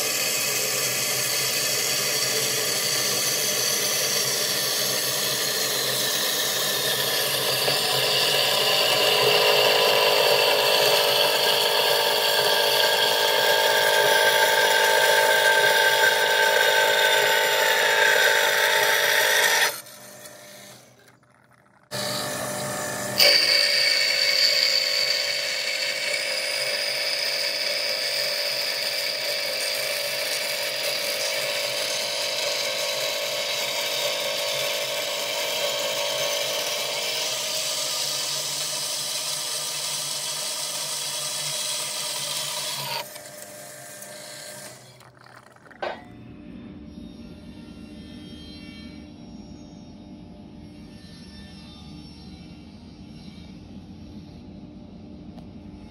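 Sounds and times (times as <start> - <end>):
band saw cutting steel: 0.0 - 46.1.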